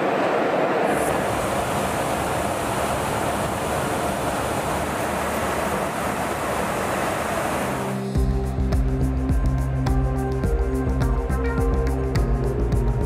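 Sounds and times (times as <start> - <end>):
aircraft cabin roar: 0.0 - 12.0.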